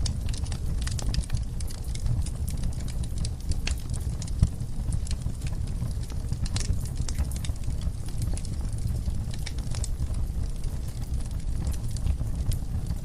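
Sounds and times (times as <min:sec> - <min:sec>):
fire flames rumbling: 0:00.0 - 0:13.0
logs crackling and popping: 0:00.0 - 0:13.0.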